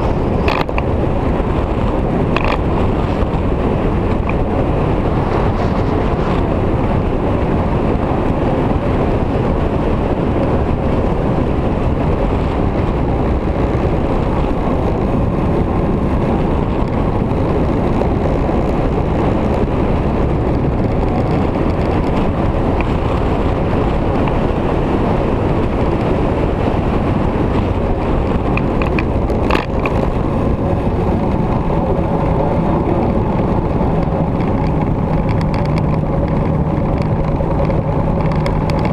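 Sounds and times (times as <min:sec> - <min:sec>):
motorcycle engine riding: 0:00.0 - 0:38.9
wind rush on microphone: 0:00.0 - 0:38.9.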